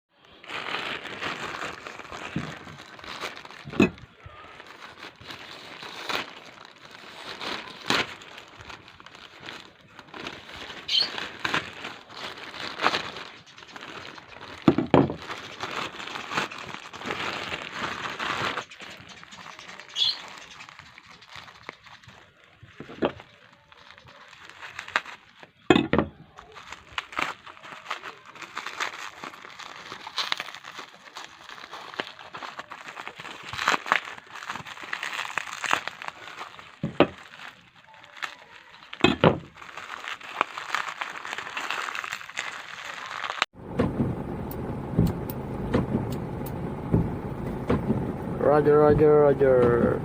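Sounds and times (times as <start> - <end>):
plastic packaging crinkling: 0.1 - 43.5.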